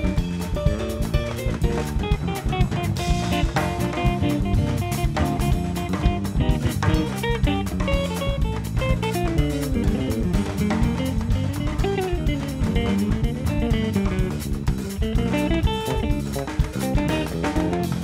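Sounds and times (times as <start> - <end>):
bass guitar: 0.0 - 18.0
drum kit: 0.0 - 18.0
electric guitar single-note lines: 0.0 - 18.0
percussion: 0.0 - 18.0.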